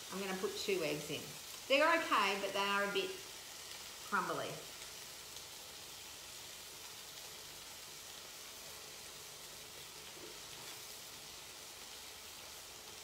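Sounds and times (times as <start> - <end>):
patties sizzling in a frying pan: 0.0 - 13.0.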